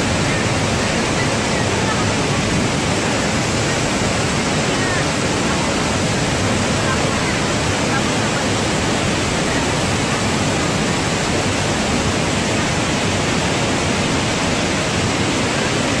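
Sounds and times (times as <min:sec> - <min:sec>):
waterfall pouring into canal: 0:00.0 - 0:16.0.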